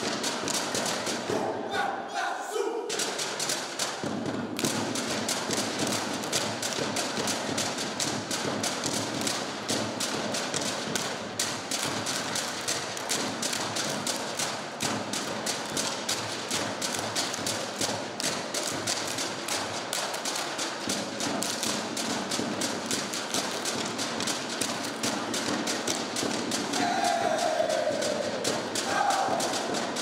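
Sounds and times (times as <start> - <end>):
hands clapping and slapping in unison: 0.0 - 1.5, 2.9 - 30.0.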